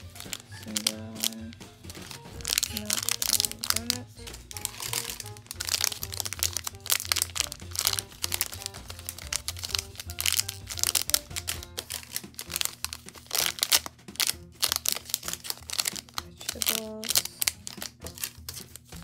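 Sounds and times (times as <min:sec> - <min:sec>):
background music: 0:00.0 - 0:19.0
plastic bags crinkling: 0:00.0 - 0:19.0.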